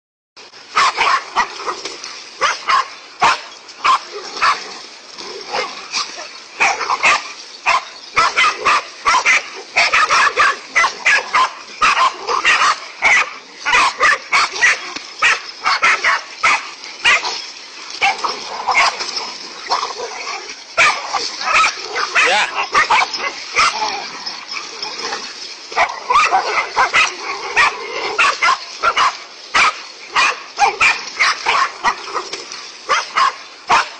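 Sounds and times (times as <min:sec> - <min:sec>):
dog barking and yelping: 0:00.7 - 0:01.8, 0:02.4 - 0:04.6, 0:05.4 - 0:17.4, 0:18.0 - 0:25.2, 0:25.8 - 0:32.3, 0:32.9 - 0:33.9.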